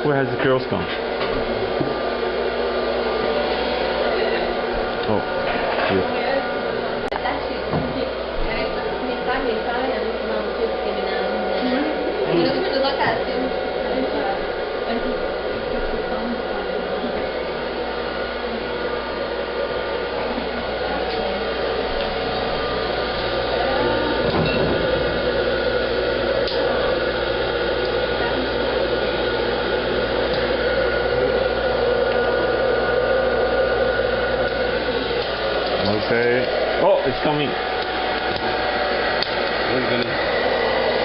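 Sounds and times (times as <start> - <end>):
popcorn machine humming: 0.0 - 41.0.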